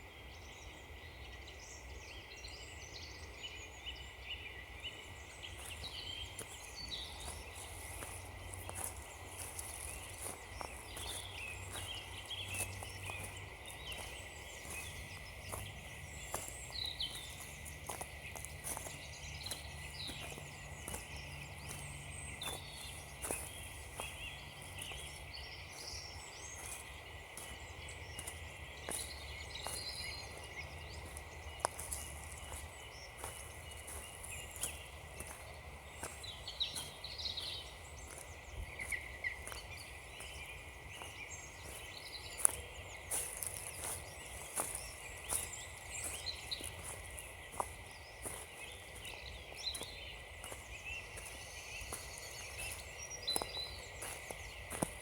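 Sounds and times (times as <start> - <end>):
small birds chirping: 0.4 - 55.0
footsteps crunching on frozen leaves: 5.2 - 55.0.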